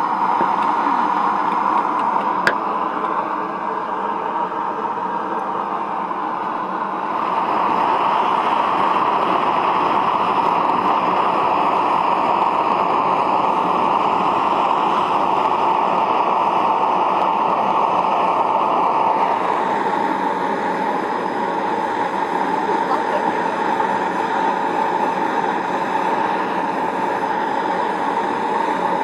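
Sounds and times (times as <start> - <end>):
propane torch hissing: 0.0 - 29.0.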